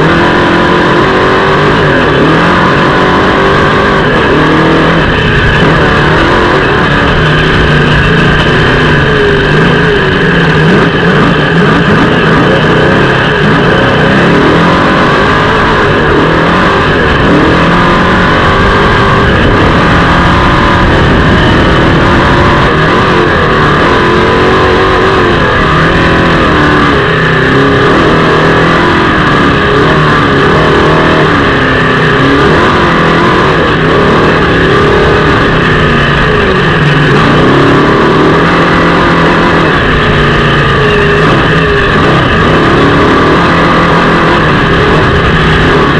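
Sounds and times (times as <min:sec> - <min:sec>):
truck engine running hard: 0:00.0 - 0:45.9.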